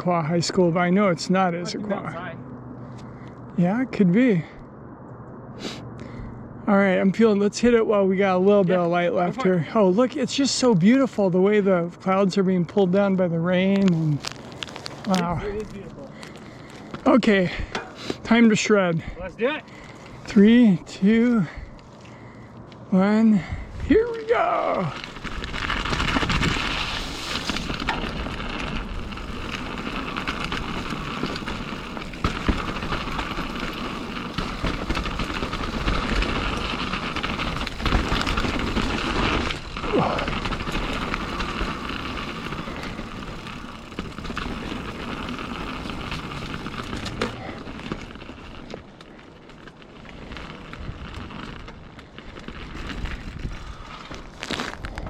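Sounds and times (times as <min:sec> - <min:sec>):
bike tyre and drivetrain noise: 0:00.0 - 0:55.0.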